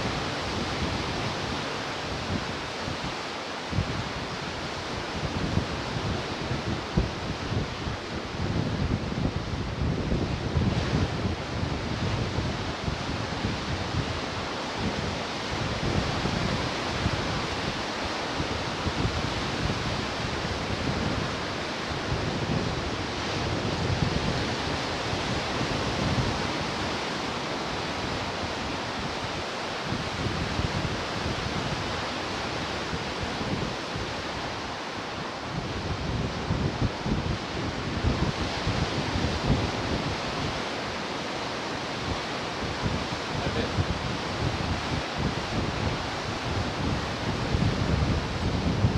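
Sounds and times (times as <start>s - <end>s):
ocean surf washing: 0.0s - 48.9s
wind gusting on microphone: 0.0s - 48.9s.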